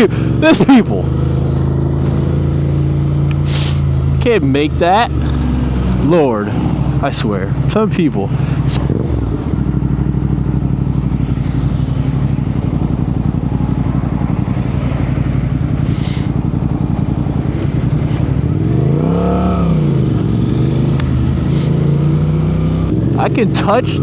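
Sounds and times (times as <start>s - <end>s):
motorcycle engine idling: 0.0s - 21.8s.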